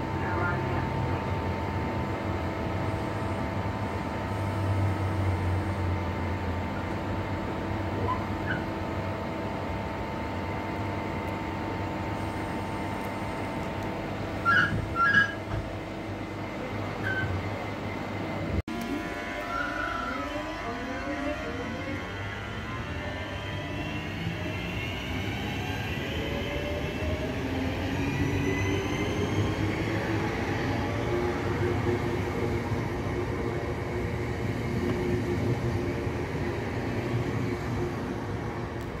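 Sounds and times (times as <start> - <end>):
electric train humming and whining: 0.0 - 39.0.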